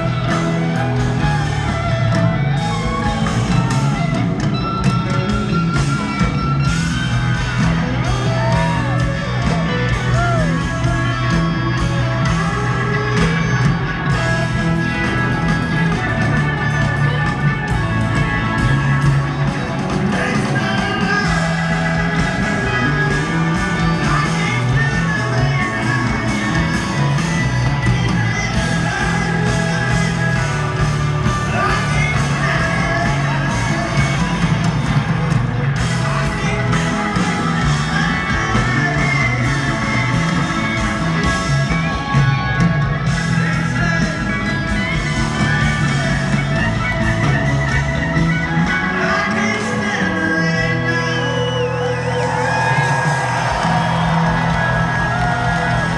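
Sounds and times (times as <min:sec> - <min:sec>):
electric guitar bending notes: 0:00.0 - 0:51.0
live rock band: 0:00.0 - 0:55.9.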